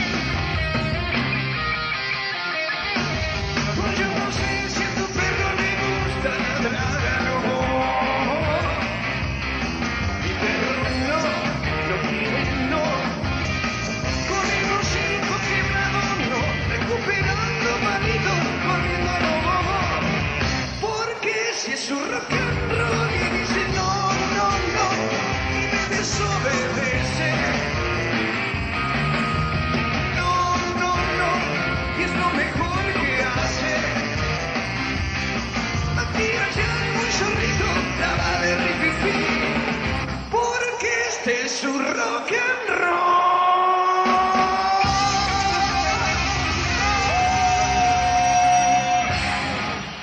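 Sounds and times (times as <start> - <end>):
bass line: 0.0 - 21.0, 22.3 - 40.4, 44.0 - 50.0
rock band playing live: 0.0 - 50.0.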